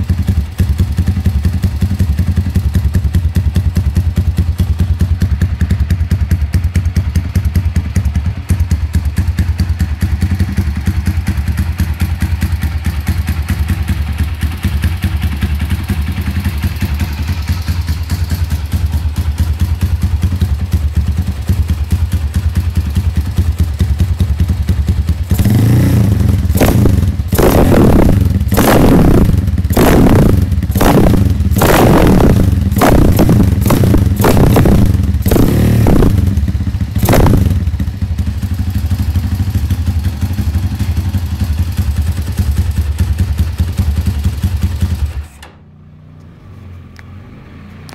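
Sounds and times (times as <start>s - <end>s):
motorcycle engine idling and revving: 0.0s - 47.9s.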